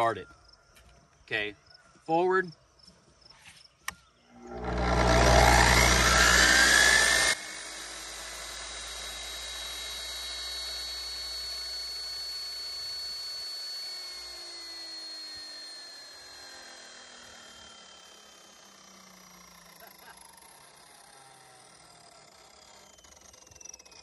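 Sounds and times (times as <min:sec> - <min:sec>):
electric concrete saw whining: 0:04.4 - 0:24.0.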